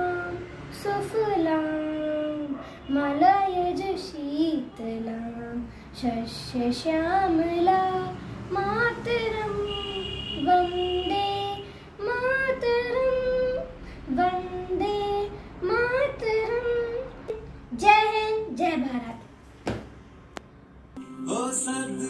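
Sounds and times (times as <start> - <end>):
girl singing: 0.0 - 19.3.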